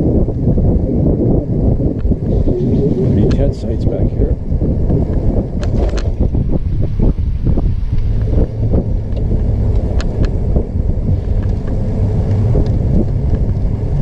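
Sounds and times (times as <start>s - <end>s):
trike rolling rumble: 0.0s - 14.0s
wind buffeting microphone: 0.0s - 14.0s.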